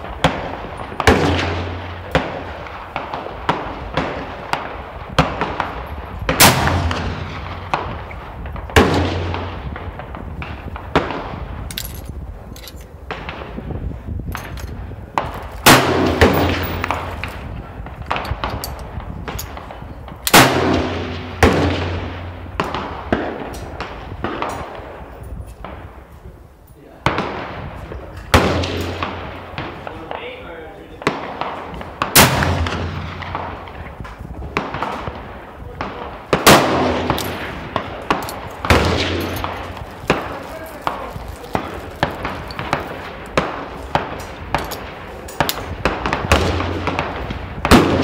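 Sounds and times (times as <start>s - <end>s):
distant gunshots: 0.0s - 11.5s, 15.2s - 18.6s, 19.5s - 25.0s, 28.3s - 48.0s
loud gunshots with echo: 0.0s - 11.7s, 15.1s - 25.9s, 27.0s - 48.0s.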